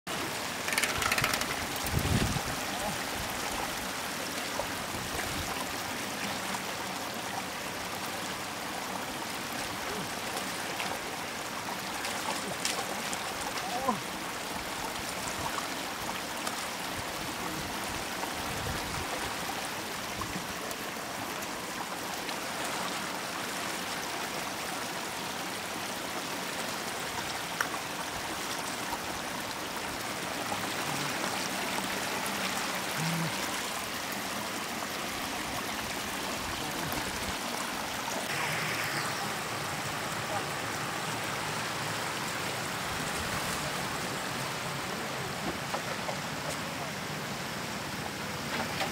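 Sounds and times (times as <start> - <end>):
floodwater rushing and churning: 0.1 - 48.9.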